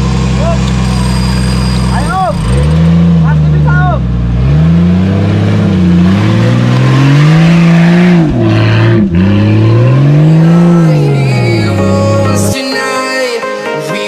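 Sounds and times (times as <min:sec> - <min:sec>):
engine revving loudly: 0:00.0 - 0:12.6.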